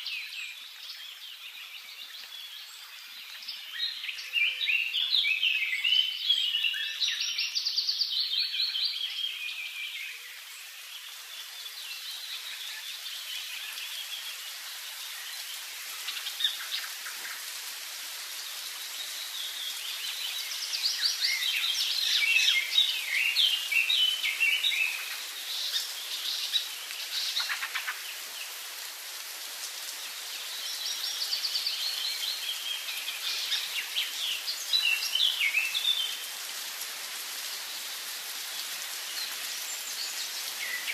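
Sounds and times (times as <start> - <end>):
birds chirping: 0.0 - 40.9
steady background hiss: 0.0 - 40.9.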